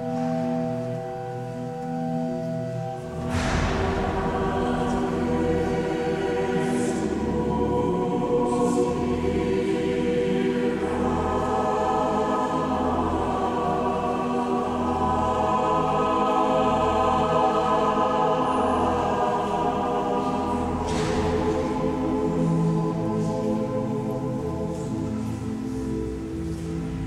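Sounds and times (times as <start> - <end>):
choir singing sustained chords: 0.0 - 27.0.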